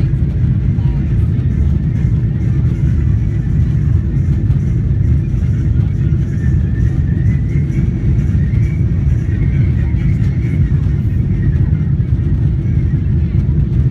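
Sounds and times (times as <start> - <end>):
faint jet whine: 0.0 - 13.9
jet engine rumble: 0.0 - 13.9.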